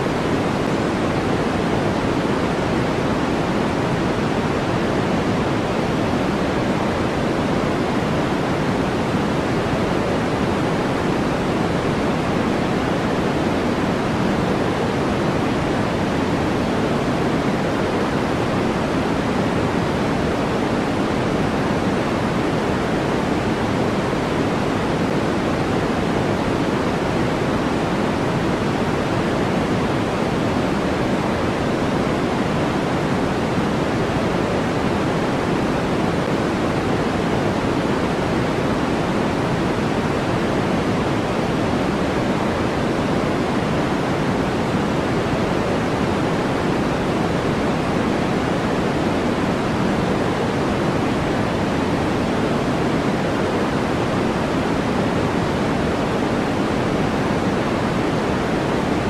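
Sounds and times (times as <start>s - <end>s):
white noise: 0.0s - 59.0s.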